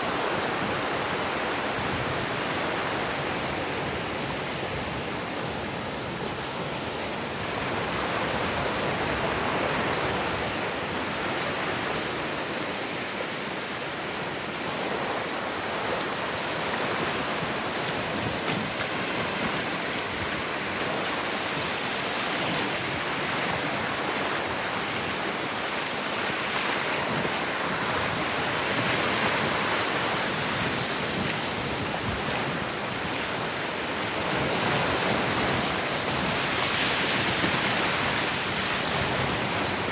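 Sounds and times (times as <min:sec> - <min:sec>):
surf washing onto a beach: 0:00.0 - 0:39.9.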